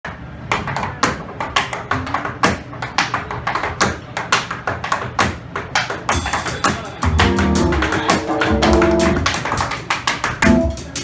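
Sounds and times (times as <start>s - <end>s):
tap shoes on hard floor: 0.5s - 10.4s.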